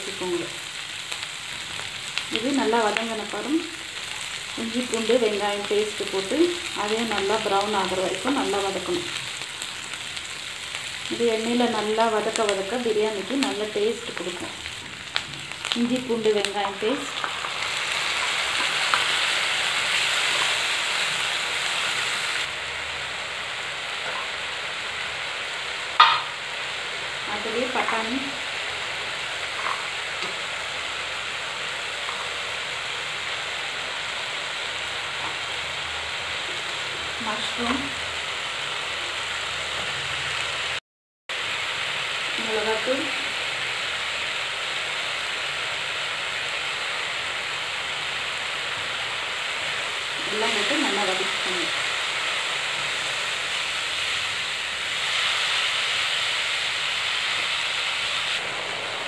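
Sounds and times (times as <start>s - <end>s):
oil sizzling in a pan: 0.0s - 59.0s.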